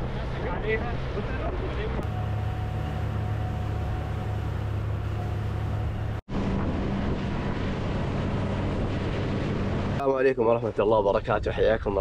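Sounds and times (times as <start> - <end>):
motorboat engine droning: 0.0 - 10.1
water rushing past hull: 0.0 - 10.1.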